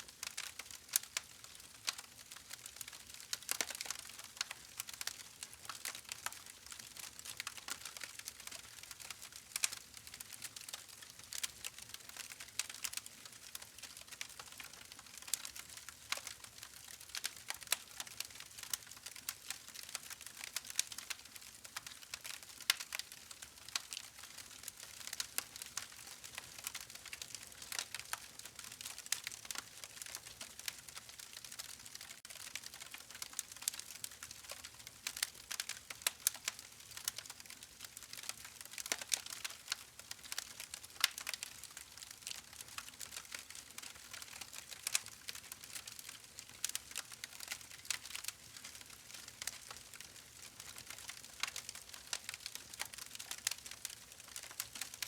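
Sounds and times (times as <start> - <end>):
campfire wood crackling: 0.0 - 55.0
soft steady hiss: 0.0 - 55.0.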